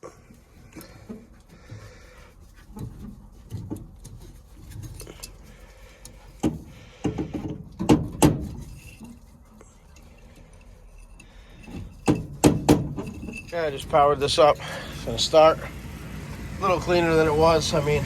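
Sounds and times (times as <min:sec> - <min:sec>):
knocks and clatters of tools: 0:00.0 - 0:15.8.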